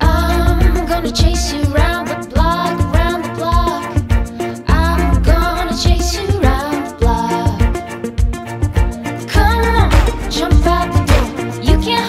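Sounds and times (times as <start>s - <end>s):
woman singing pop song: 0.0s - 8.3s, 9.2s - 12.0s
low drum beat: 0.0s - 11.3s.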